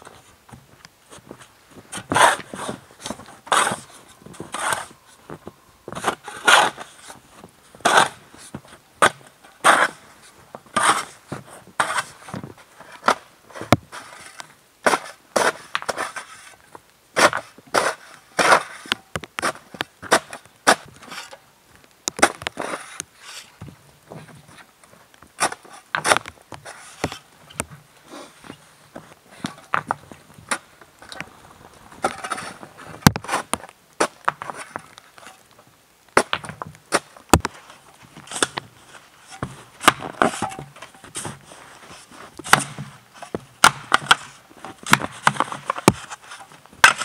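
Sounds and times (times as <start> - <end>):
snow shovel scraping: 1.1 - 5.3, 5.9 - 16.6, 17.2 - 21.4, 22.2 - 23.6, 25.4 - 27.3, 28.0 - 29.8, 30.4 - 35.4, 36.9 - 47.0.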